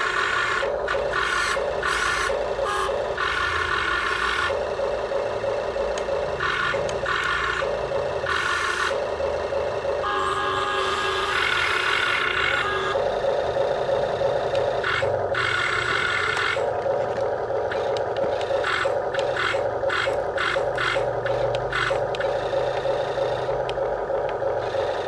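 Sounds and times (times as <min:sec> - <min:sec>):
toy backhoe mechanical whir: 0:00.0 - 0:25.0.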